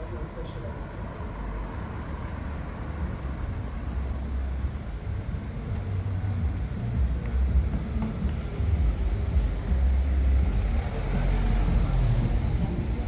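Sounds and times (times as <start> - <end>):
low uneven street rumble: 0.0 - 13.0.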